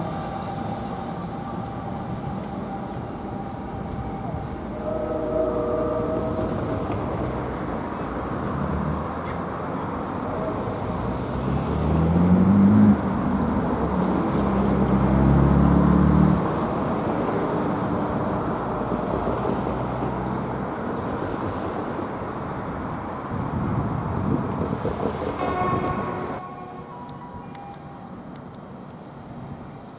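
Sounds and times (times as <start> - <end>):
train rumbling on rails: 0.0 - 29.9.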